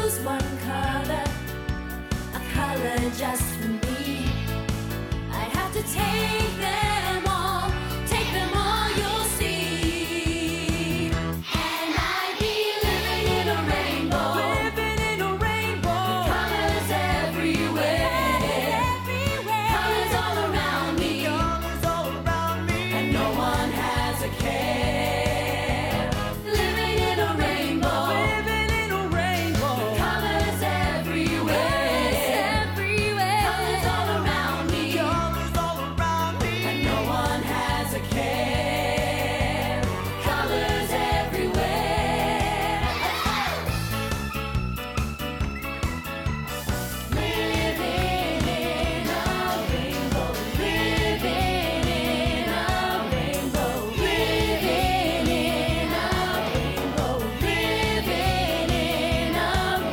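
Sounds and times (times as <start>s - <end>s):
children's pop song: 0.0s - 59.9s.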